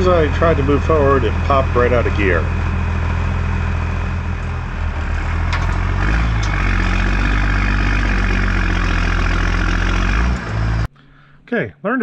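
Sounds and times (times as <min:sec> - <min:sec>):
truck engine revving under load: 0:00.0 - 0:10.9.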